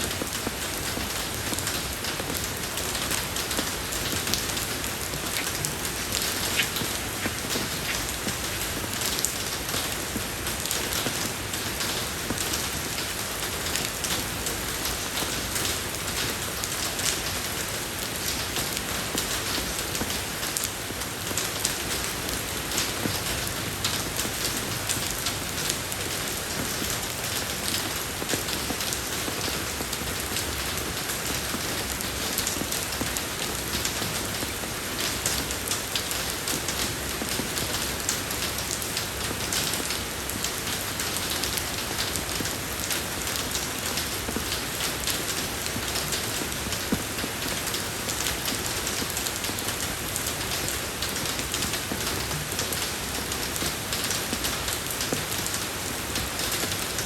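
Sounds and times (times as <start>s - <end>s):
rain falling on road: 0.0s - 57.0s.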